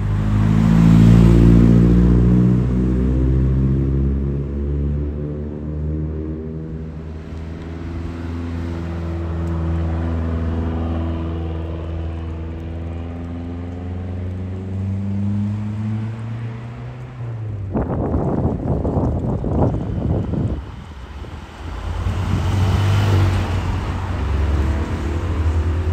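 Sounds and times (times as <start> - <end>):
car engine passing at low revs: 0.0 - 25.9.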